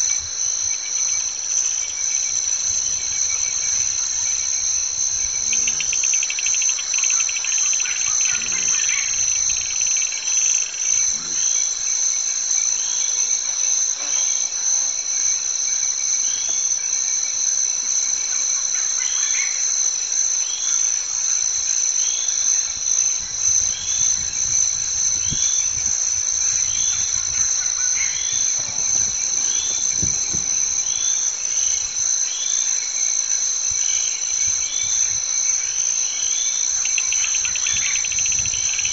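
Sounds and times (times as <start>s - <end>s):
insects shrilling: 0.5s - 15.2s, 21.4s - 38.9s.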